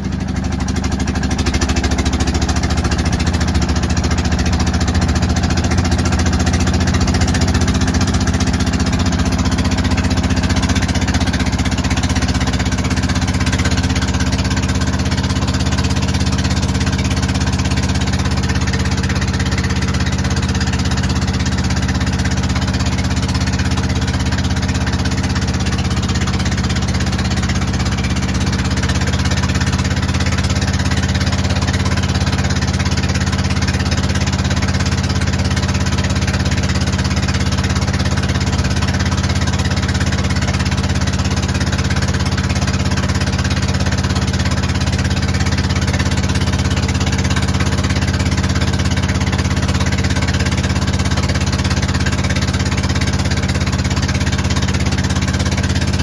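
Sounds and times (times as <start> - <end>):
boat engine running: 0.0 - 56.0
water rushing along hull: 0.0 - 56.0.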